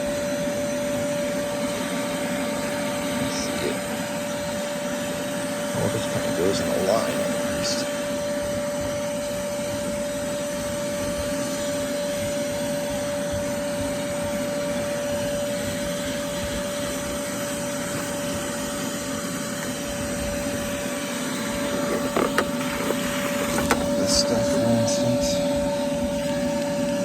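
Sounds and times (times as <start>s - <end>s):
shop vacuum whining: 0.0s - 27.0s.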